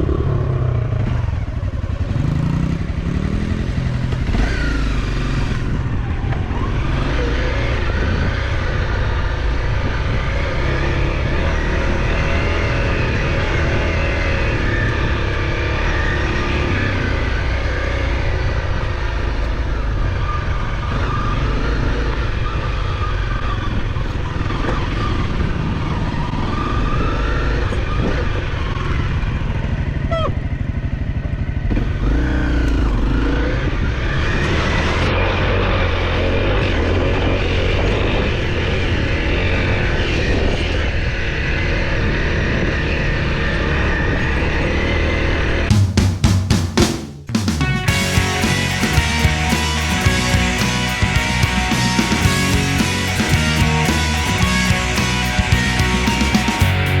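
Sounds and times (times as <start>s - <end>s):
motorcycle engine running: 0.0s - 40.5s, 45.7s - 57.0s.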